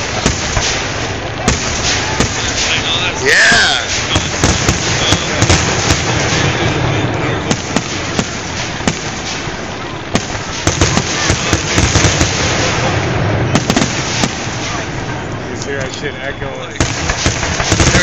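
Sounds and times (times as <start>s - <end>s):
firework shells bursting: 0.0s - 16.1s, 16.7s - 18.0s.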